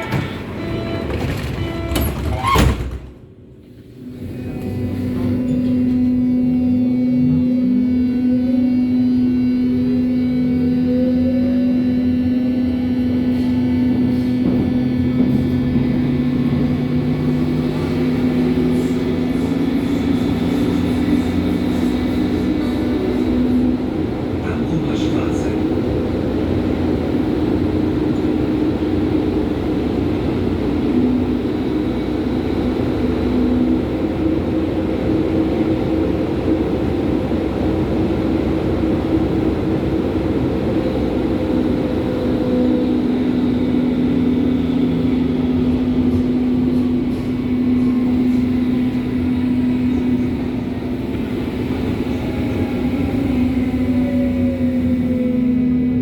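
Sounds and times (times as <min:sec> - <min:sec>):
train humming tones: 0:00.0 - 0:56.0
underground train wheels rumbling: 0:00.0 - 0:56.0.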